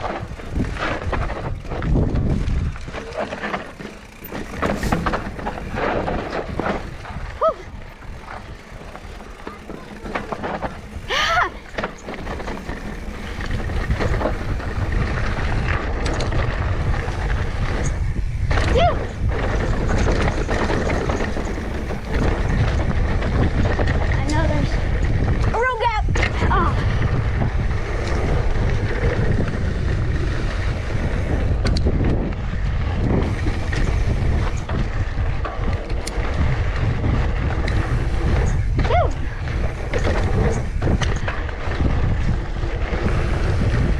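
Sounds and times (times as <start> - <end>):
bike clicks and rattles: 0.0 - 43.9
bike tyre rumble: 0.0 - 43.9
wind on microphone: 0.0 - 43.9.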